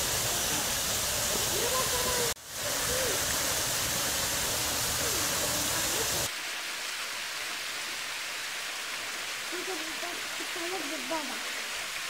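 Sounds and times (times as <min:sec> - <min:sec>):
waterfall and river rushing: 0:00.0 - 0:12.0.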